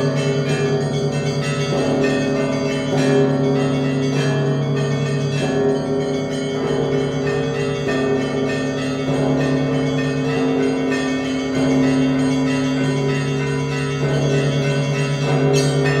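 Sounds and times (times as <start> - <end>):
heavy church bell: 0.0 - 16.0
small bells ringing: 0.0 - 16.0.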